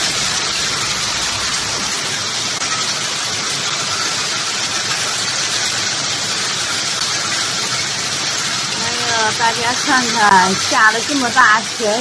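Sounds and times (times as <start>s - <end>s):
hail and rain falling hard: 0.0s - 12.0s.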